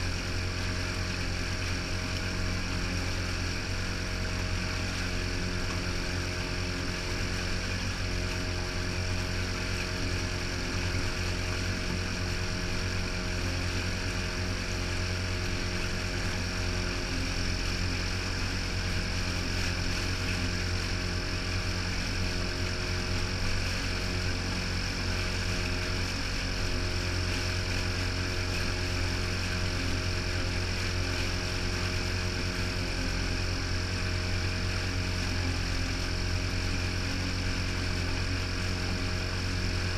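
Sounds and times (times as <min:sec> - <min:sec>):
boat wake washing: 0:00.0 - 0:39.9
outboard motor running: 0:00.0 - 0:39.9.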